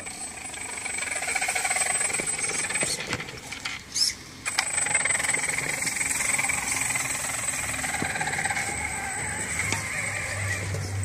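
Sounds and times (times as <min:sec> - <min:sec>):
rattly mechanical chatter: 0:00.0 - 0:11.0
rc truck motor whine: 0:00.0 - 0:11.0.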